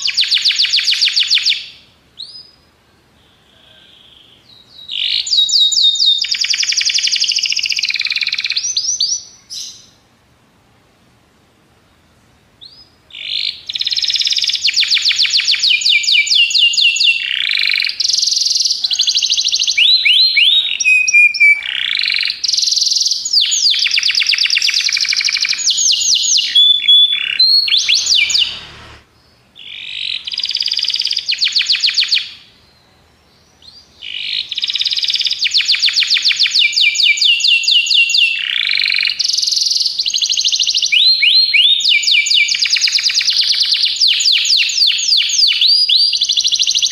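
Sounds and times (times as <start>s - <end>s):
canary singing trills: 0.0s - 10.0s, 12.6s - 46.9s.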